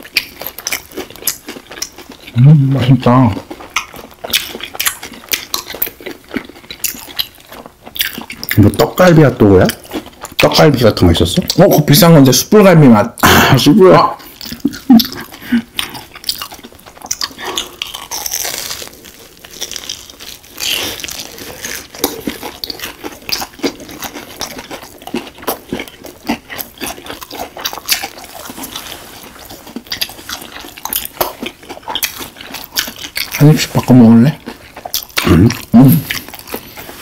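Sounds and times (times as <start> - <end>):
chewing and crunching: 0.0 - 12.4, 13.8 - 37.0.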